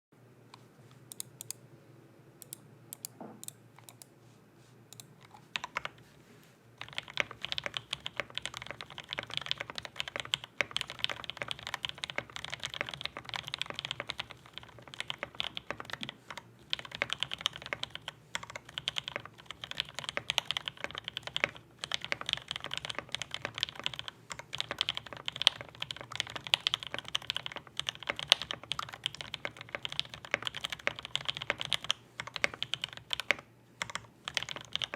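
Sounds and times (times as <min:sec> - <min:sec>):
mechanical keyboard typing: 0:05.0 - 0:06.0, 0:06.8 - 0:34.9.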